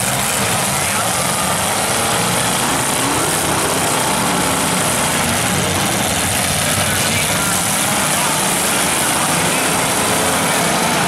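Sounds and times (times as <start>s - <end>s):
car engines running loud: 0.0s - 11.0s.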